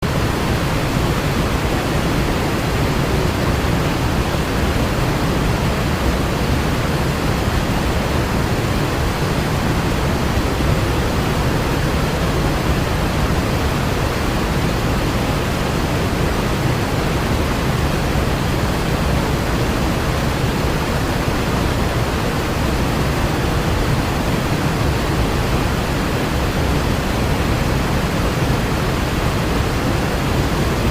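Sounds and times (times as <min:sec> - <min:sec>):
floodwater rushing: 0:00.1 - 0:30.9.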